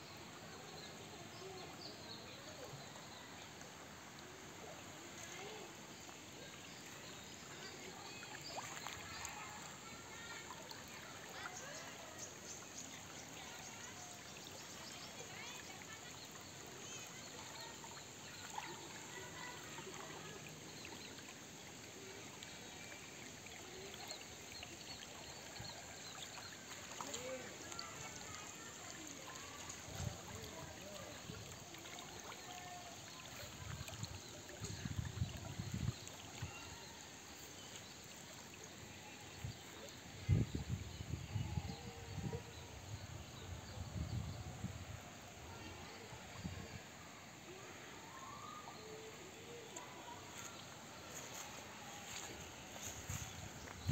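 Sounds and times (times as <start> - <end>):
creek trickling over stones: 0.3 - 53.9.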